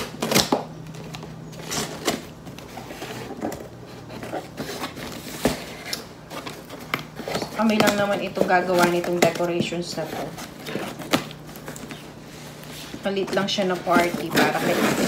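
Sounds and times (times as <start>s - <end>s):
scissors cutting cardboard: 0.0s - 12.0s, 13.3s - 15.0s.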